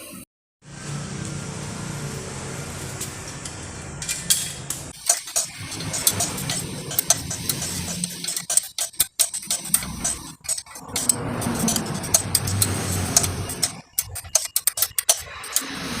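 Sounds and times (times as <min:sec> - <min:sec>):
tools and metal parts clinking: 0:02.8 - 0:16.0.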